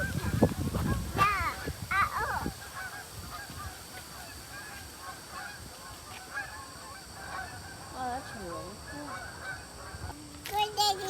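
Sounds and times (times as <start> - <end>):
flock of birds calling: 0.0 - 10.2.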